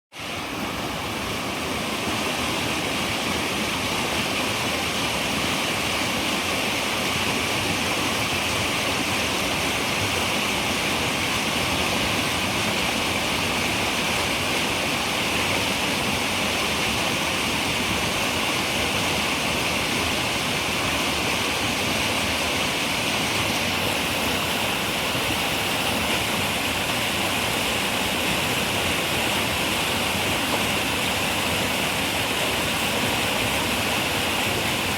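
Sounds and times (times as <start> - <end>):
river water rushing: 0.2 - 34.9.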